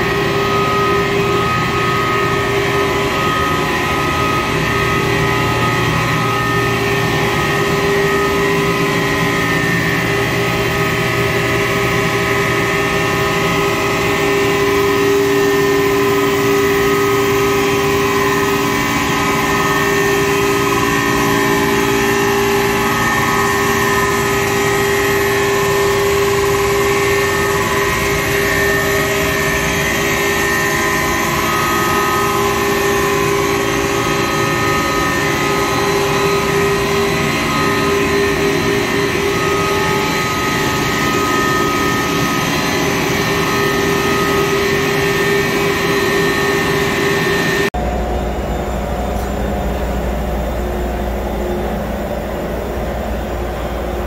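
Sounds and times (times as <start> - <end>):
engines running: 0.0 - 54.0
pumps and motors humming: 0.0 - 54.0.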